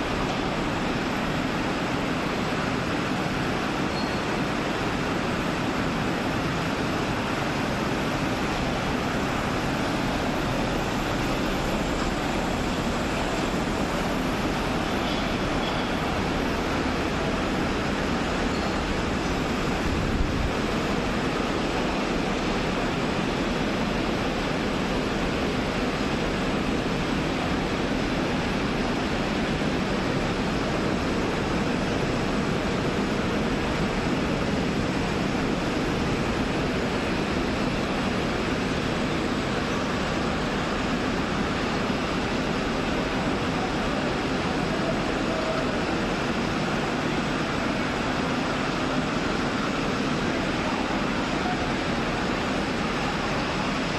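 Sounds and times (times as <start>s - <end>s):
factory machinery running: 0.0s - 53.9s.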